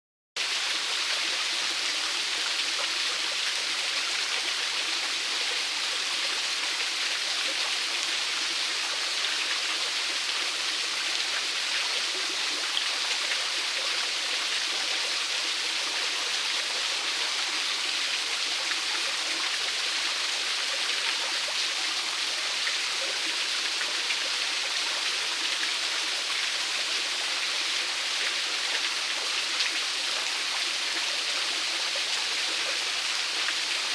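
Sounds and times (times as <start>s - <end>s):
small waterfall splashing: 0.4s - 33.9s.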